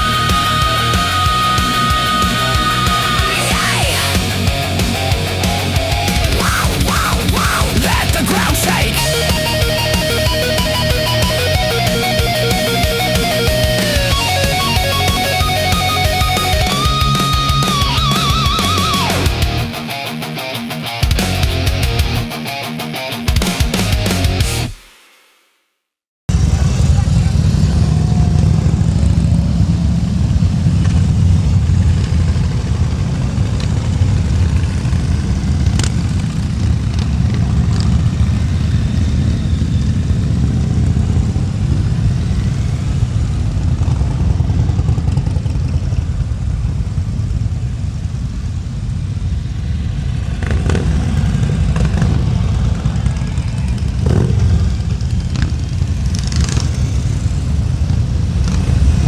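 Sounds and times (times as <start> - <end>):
motorcycle engine rumbling: 0.0 - 20.0, 26.3 - 59.0.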